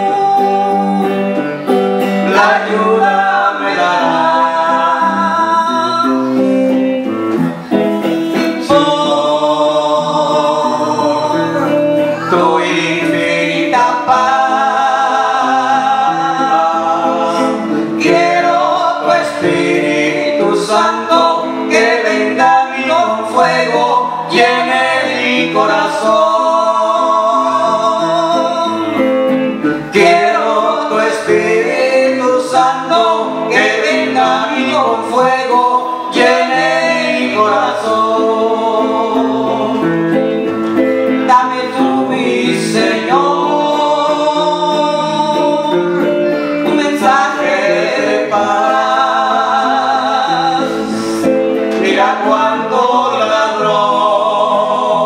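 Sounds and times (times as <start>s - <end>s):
man and woman singing: 0.0s - 7.1s, 8.1s - 55.0s
electric guitar: 0.0s - 55.0s.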